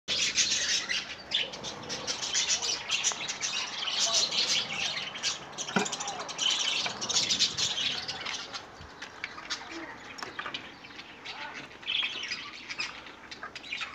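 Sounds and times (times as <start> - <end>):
budgerigars chattering: 0.1 - 13.9.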